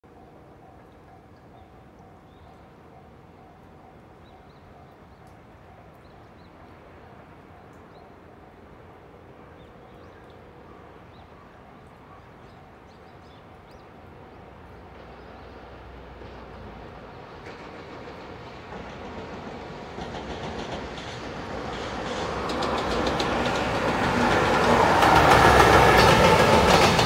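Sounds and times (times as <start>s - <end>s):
freight train rumble: 0.1s - 27.0s.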